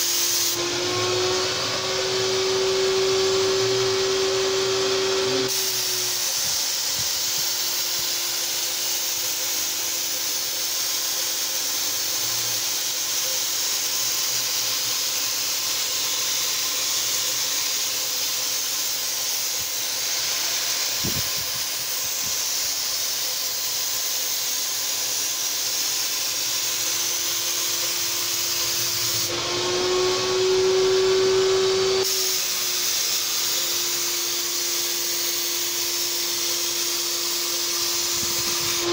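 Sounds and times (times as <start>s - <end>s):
paint sprayer air hiss: 0.0s - 0.6s, 1.7s - 29.4s, 30.7s - 38.9s
paint sprayer turbine whine: 0.0s - 38.9s.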